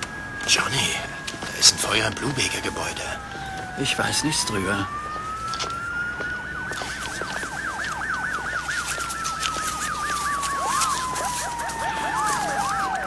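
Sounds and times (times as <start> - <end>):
siren slow wail: 0.0 - 13.0
siren fast warbling yelp: 0.4 - 13.0.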